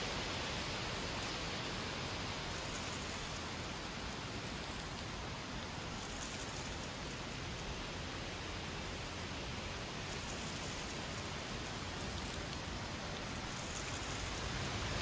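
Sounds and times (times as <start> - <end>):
rain falling on wet leaves: 0.0 - 15.0.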